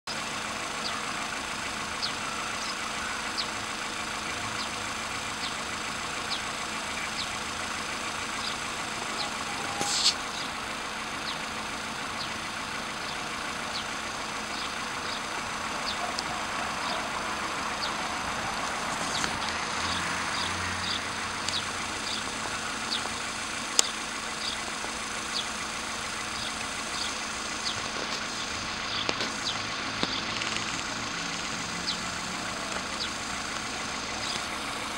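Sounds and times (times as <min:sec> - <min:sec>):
car engine idling: 0:00.0 - 0:34.9
light engine ticking: 0:00.1 - 0:34.9.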